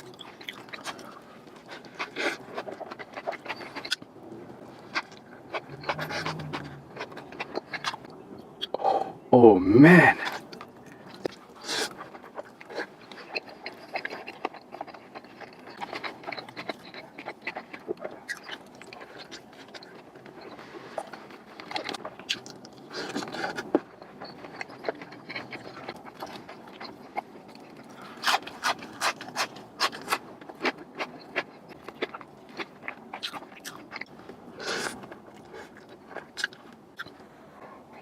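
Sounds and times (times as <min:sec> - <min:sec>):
burger being chewed: 0:00.0 - 0:08.8, 0:10.2 - 0:38.0.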